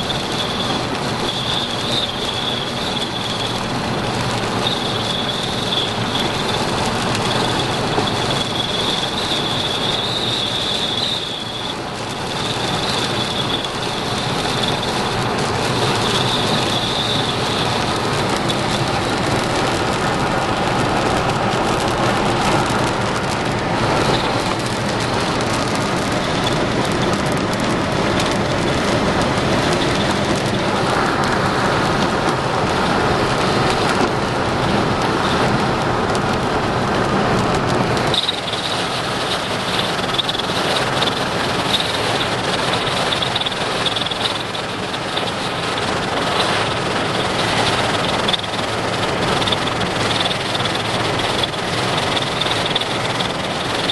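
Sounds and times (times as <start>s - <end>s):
heavy rain: 0.0s - 53.9s
vehicle rumble: 0.0s - 53.9s.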